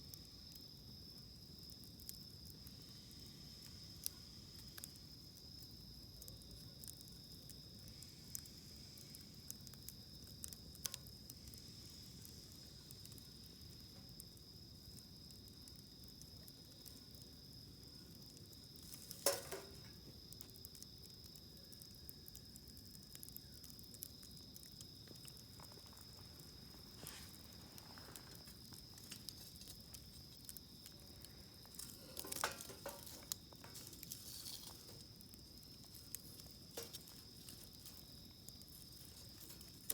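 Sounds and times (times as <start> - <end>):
campfire wood crackling: 0.0 - 39.9
crickets trilling: 0.0 - 39.9.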